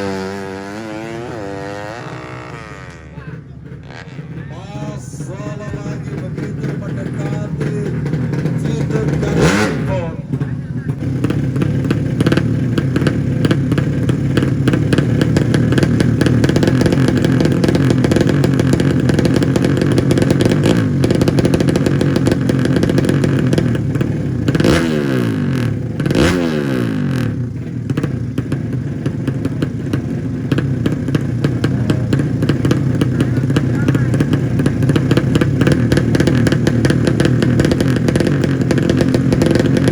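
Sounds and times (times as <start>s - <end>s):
motorcycle engines revving high: 0.0s - 39.9s.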